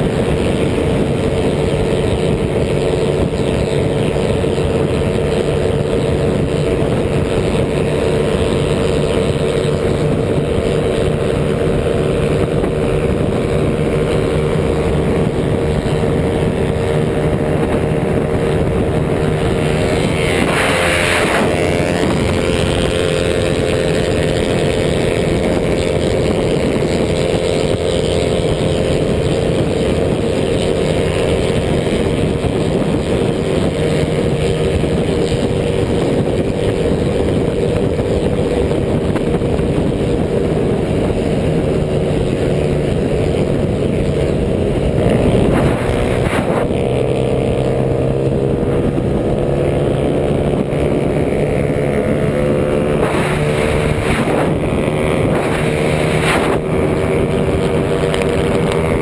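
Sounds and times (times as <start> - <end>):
small motorcycle engine running: 0.0 - 59.0
wind rush on camera: 0.0 - 59.0.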